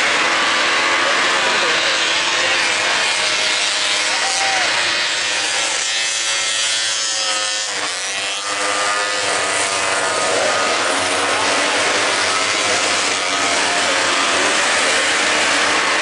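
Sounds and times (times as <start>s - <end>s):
snowmobile engines buzzing: 0.0s - 16.0s.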